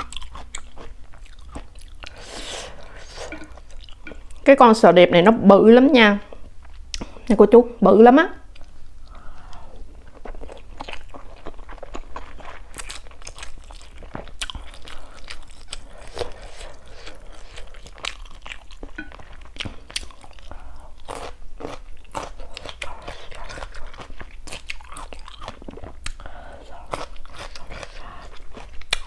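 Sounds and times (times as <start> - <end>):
chewing noodles: 0.0 - 4.4, 8.5 - 29.0.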